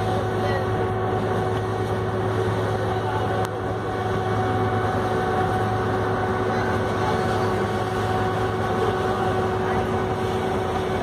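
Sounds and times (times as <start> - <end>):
ferry engine droning: 0.0 - 11.0.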